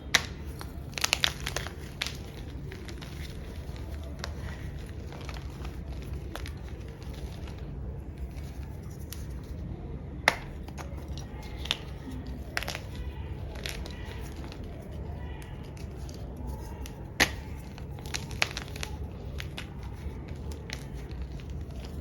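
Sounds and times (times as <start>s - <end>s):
chalk cracking and crumbling: 0.0s - 9.6s, 10.3s - 22.0s
low background hum: 0.0s - 22.0s.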